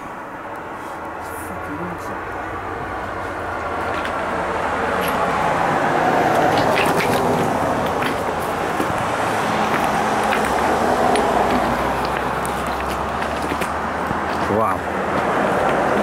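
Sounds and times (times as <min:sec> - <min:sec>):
vehicles driving past: 0:00.0 - 0:16.0.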